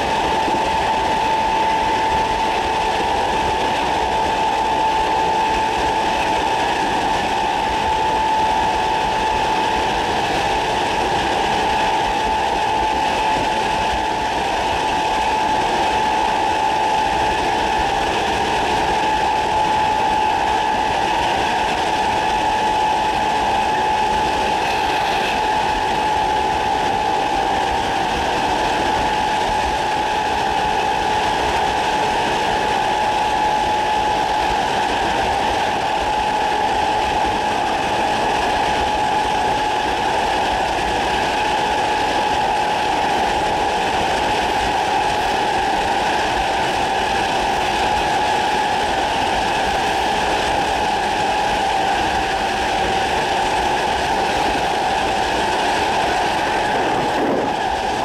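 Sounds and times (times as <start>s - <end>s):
electric train motors whining: 0.0s - 58.0s
wheels rushing on rail: 0.0s - 58.0s.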